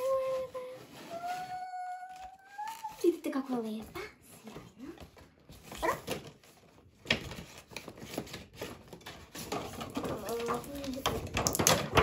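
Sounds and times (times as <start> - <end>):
cardboard packaging rustling: 0.0 - 12.0.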